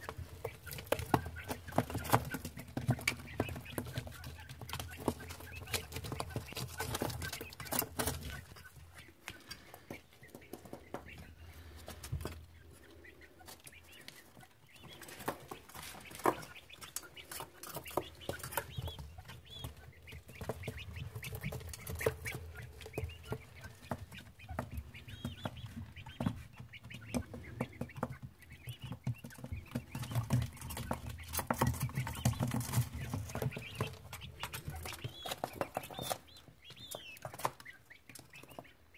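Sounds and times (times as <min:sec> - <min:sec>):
pecking and scratching clicks: 0:00.0 - 0:38.7
chicks chirping softly: 0:00.0 - 0:38.9.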